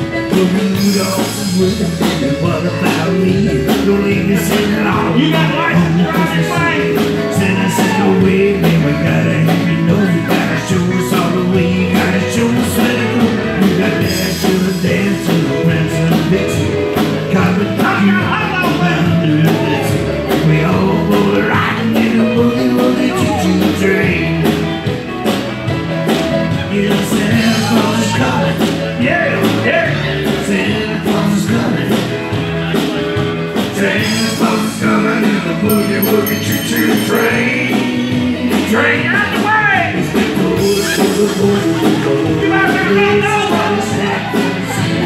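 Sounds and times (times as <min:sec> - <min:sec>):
drum kit beat: 0:00.0 - 0:45.0
electric guitar: 0:00.0 - 0:45.0
live rock band playing: 0:00.0 - 0:45.0.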